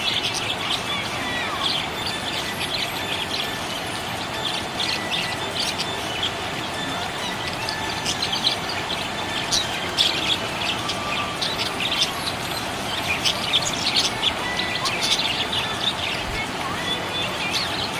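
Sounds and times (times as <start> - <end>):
parrots chirping: 0.0 - 17.9.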